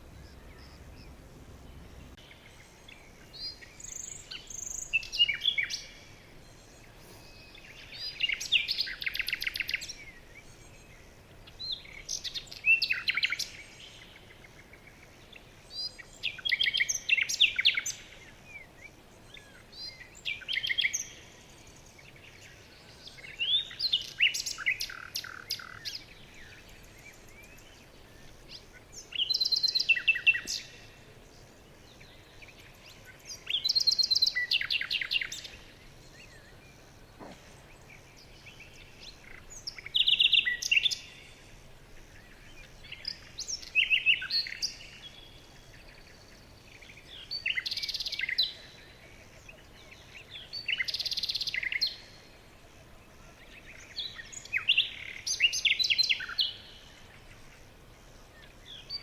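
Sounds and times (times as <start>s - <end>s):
faint steady hiss: 0.0s - 59.0s
songbird singing: 0.0s - 59.0s.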